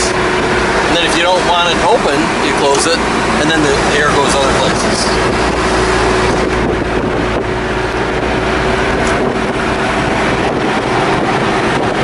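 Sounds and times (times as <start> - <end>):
diesel engine drone: 0.0 - 12.0
road noise: 0.0 - 12.0.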